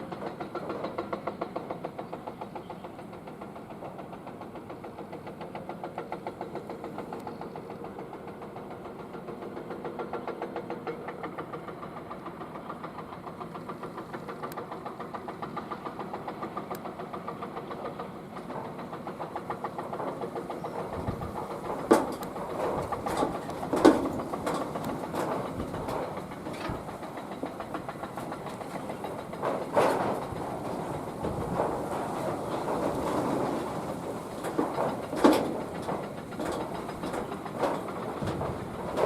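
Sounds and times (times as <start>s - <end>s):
excavator diesel engine knocking: 0.0s - 39.0s.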